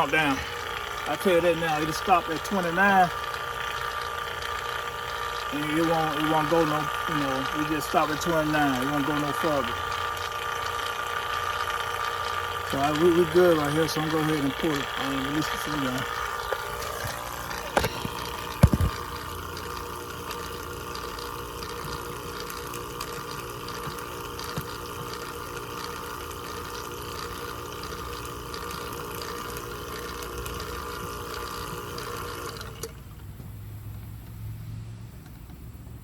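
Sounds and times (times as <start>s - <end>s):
vacuum pump running: 0.0s - 36.0s.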